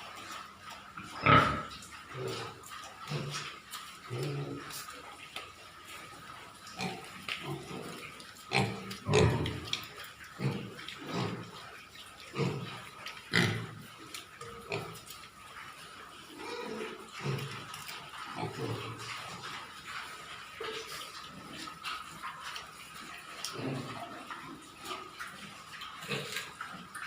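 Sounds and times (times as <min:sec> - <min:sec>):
pigs grunting: 0:00.0 - 0:27.0.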